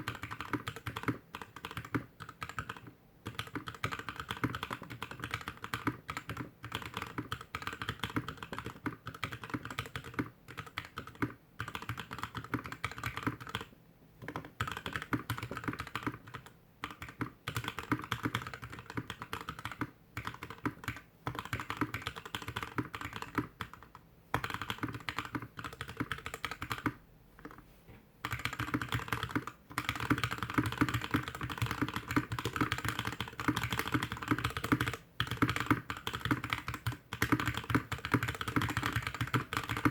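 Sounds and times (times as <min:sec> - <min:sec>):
typing on mechanical keyboard: 0:00.0 - 0:27.6, 0:28.2 - 0:39.9.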